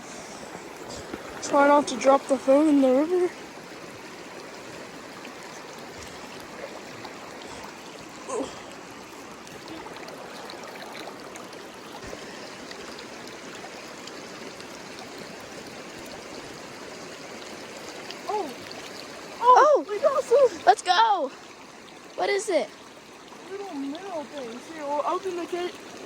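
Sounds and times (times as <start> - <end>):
river water running over rocks: 0.0 - 26.0.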